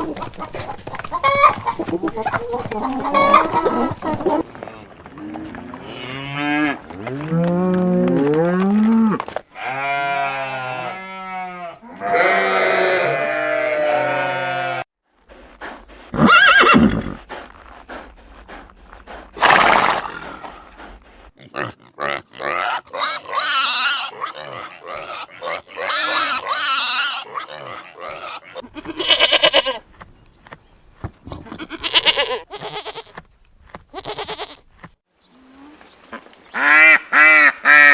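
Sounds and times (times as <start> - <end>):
farm animals calling: 0.0 - 7.8, 8.4 - 30.6, 31.2 - 33.2, 33.9 - 34.6, 35.2 - 37.9.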